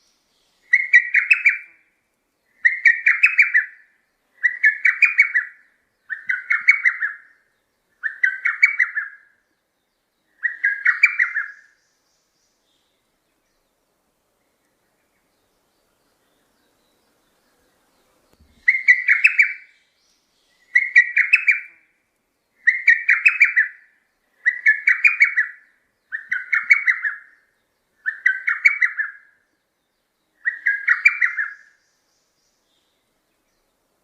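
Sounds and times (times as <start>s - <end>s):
bird calling: 0.0s - 13.7s, 14.7s - 29.6s, 30.2s - 33.1s.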